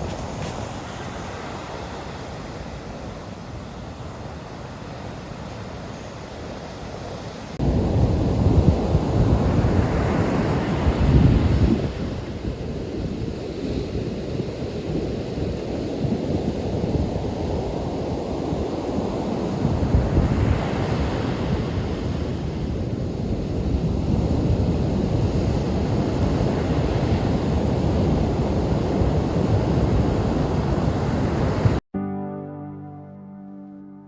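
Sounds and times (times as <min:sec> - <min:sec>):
wind buffeting microphone: 0:00.0 - 0:03.1, 0:07.6 - 0:31.8
wind: 0:00.0 - 0:31.8.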